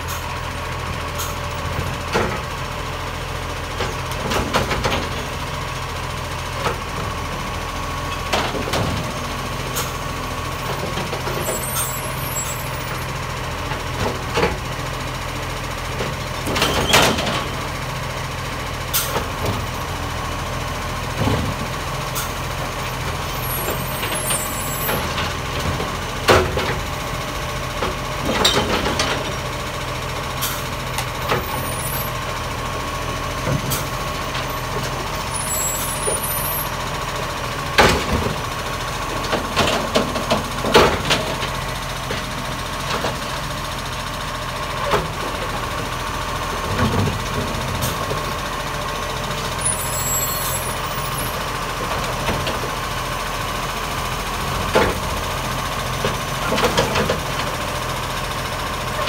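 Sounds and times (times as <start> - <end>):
garbage truck engine running: 0.0 - 59.0.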